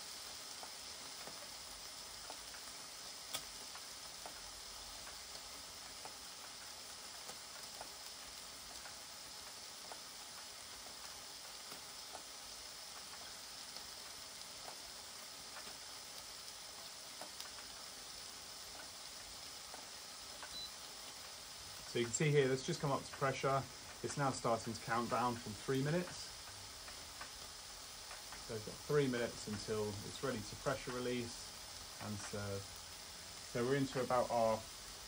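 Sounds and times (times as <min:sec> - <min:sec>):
meat sizzling in a grill: 0:00.0 - 0:35.0
small crackles: 0:00.0 - 0:35.0.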